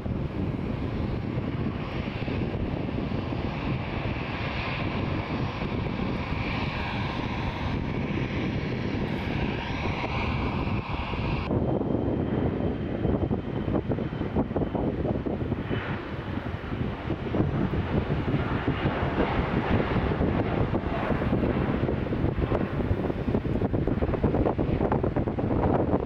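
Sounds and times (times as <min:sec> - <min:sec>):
jet engine whine: 0:00.0 - 0:26.0
jet engines rumbling: 0:00.0 - 0:26.0.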